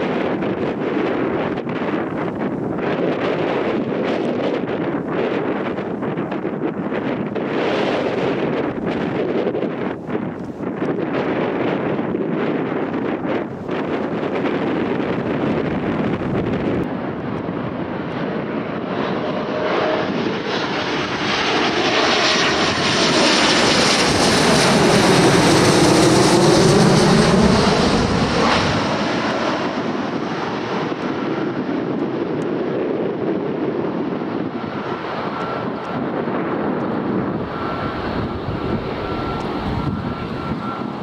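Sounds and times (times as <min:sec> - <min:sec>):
airliner engines passing: 0:00.0 - 0:41.0.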